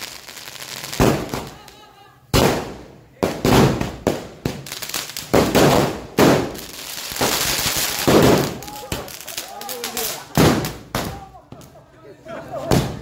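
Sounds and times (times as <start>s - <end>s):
fireworks bangs: 0.0s - 11.8s, 12.6s - 13.0s.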